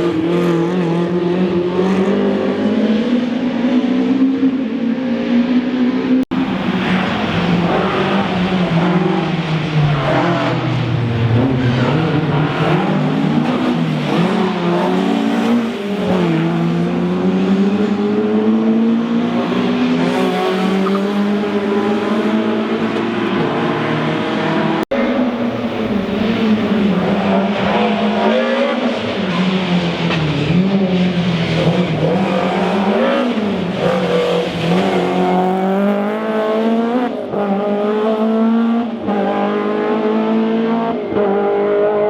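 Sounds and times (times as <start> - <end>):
rally car engine revving: 5.5 - 42.0.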